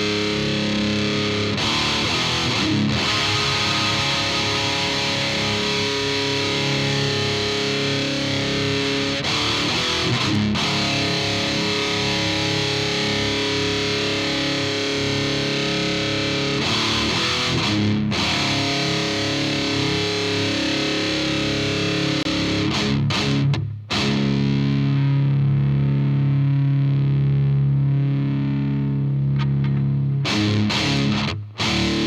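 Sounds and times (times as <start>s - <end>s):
distorted electric guitar chords: 0.0s - 32.0s.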